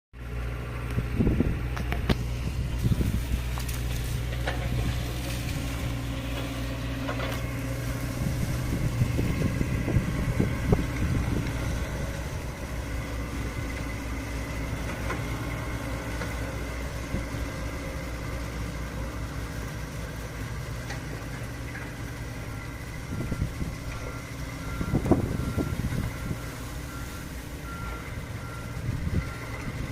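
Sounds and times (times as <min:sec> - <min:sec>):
excavator diesel engine running: 0:00.2 - 0:29.9.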